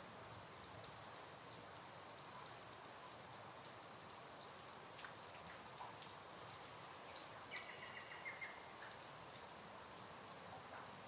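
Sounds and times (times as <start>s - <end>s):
faint steady rain: 0.0s - 11.0s
single raindrops landing close: 0.0s - 11.0s.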